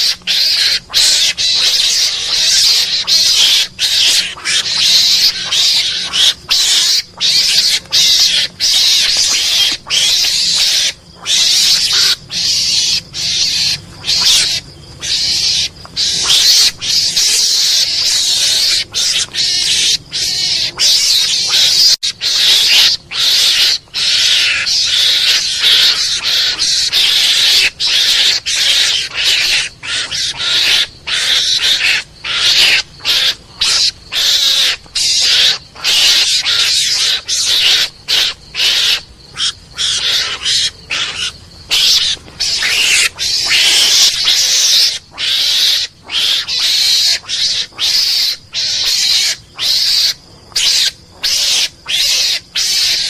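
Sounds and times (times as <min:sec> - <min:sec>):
harsh hissing animal screeches: 0:00.0 - 0:53.0.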